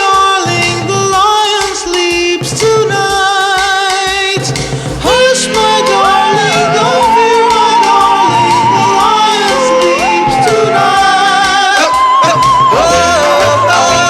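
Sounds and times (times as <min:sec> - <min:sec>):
steady musical backing: 0:00.0 - 0:14.0
wordless sung melody: 0:00.0 - 0:14.0.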